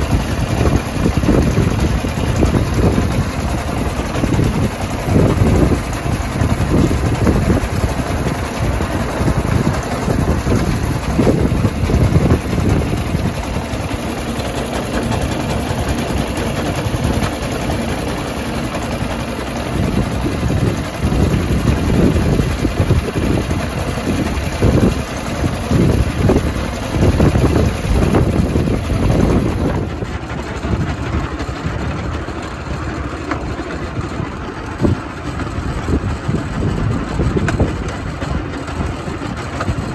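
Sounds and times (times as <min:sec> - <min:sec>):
miniature locomotive engine running: 0:00.0 - 0:39.9.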